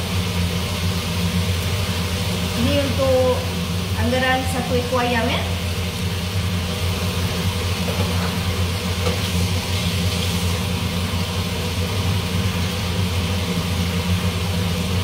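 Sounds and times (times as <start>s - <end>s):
cooker hood fan running: 0.0s - 15.0s.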